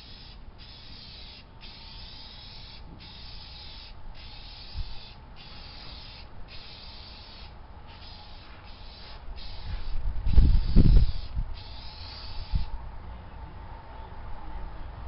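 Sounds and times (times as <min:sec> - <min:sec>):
aerosol spray can hissing: 0:00.0 - 0:12.7.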